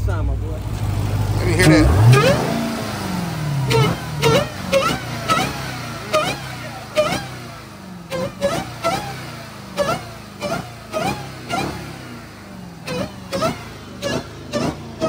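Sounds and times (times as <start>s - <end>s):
engine revving in throttle blips: 0.0s - 15.0s.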